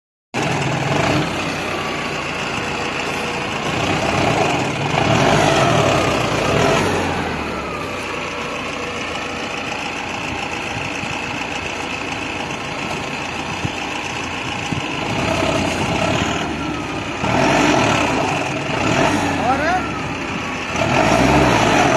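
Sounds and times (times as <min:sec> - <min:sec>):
tractor diesel engine under load: 0:00.3 - 0:21.9.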